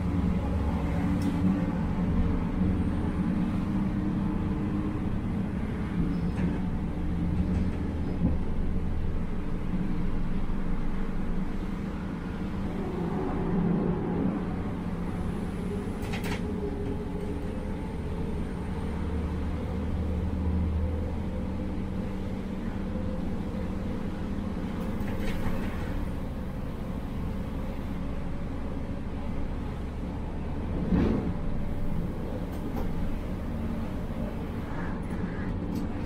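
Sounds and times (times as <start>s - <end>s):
train wheels on rails drone: 0.0s - 36.0s.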